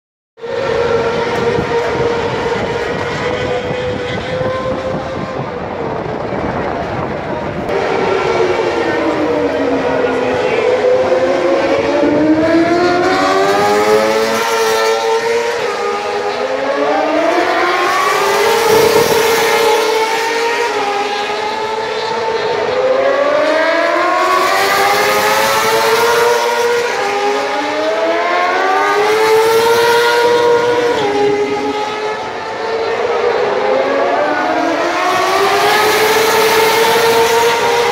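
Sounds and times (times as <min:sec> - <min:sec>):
racing motorcycles accelerating: 0:00.4 - 0:37.9.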